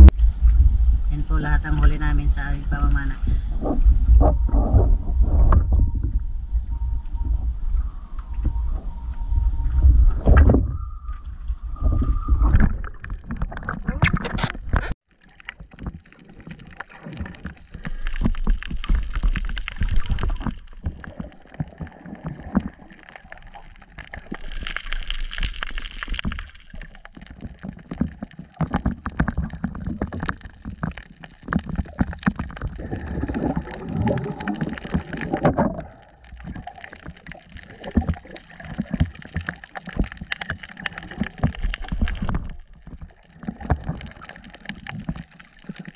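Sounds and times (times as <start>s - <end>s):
water sloshing and gurgling: 1.7s - 45.9s.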